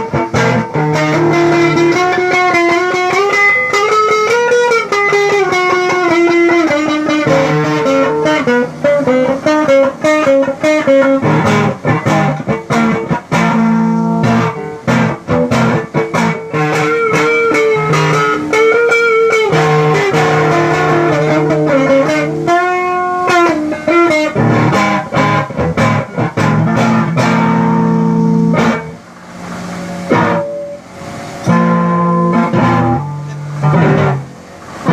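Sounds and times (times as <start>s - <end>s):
electric guitar melody with string bends: 0.0s - 34.9s.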